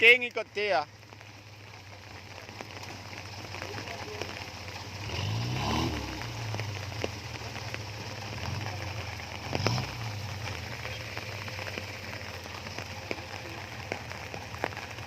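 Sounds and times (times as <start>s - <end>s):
steady crackling hiss: 0.0s - 15.0s
car engine revving under load: 2.3s - 15.0s.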